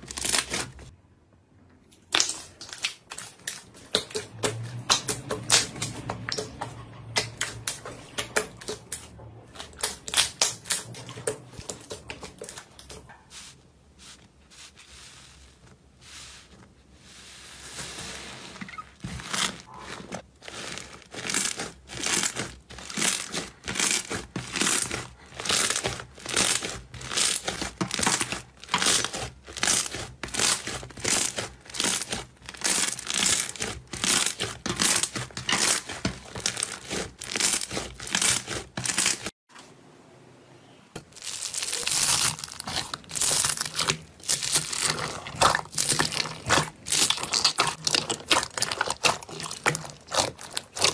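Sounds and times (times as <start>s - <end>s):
slime squishing and crackling: 0.0s - 0.9s, 2.0s - 13.1s, 17.6s - 39.4s, 41.0s - 50.9s.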